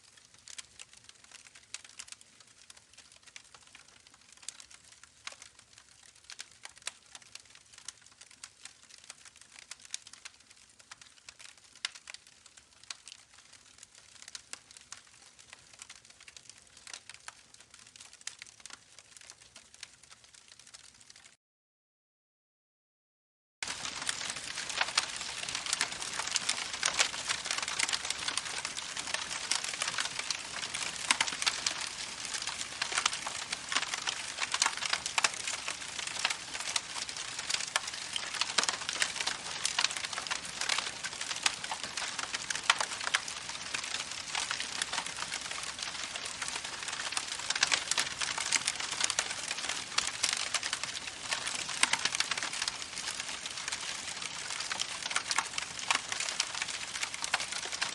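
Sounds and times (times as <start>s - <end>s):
campfire crackling: 0.1s - 21.3s, 23.6s - 57.9s.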